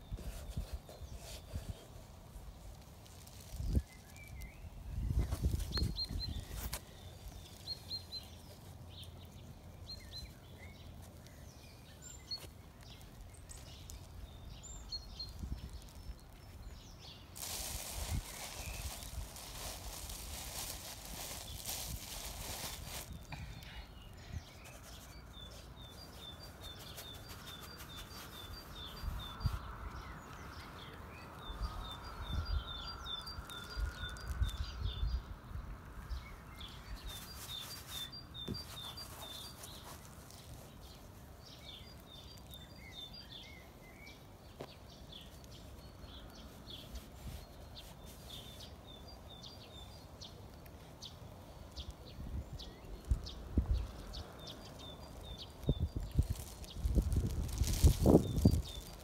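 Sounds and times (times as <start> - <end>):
small bird chirping: 0.0 - 59.0.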